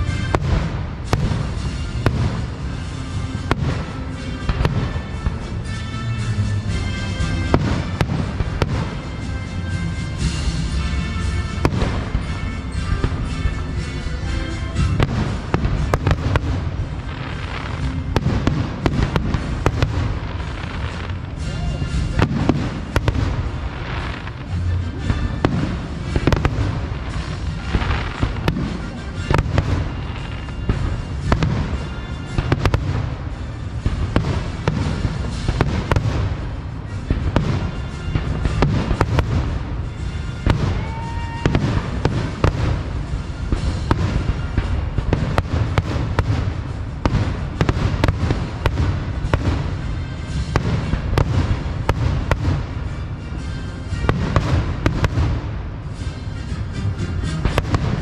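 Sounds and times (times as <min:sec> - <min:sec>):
continuous rumble: 0:00.0 - 0:58.0
fireworks bursting: 0:00.0 - 0:58.0.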